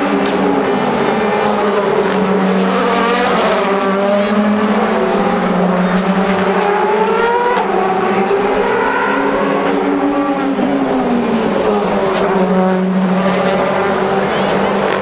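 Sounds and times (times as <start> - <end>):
racing car engines accelerating: 0.0 - 15.0.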